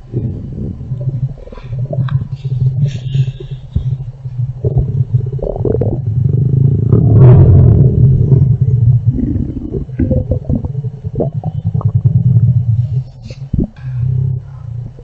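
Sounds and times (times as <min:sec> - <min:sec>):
stomach growling: 0:00.0 - 0:15.0.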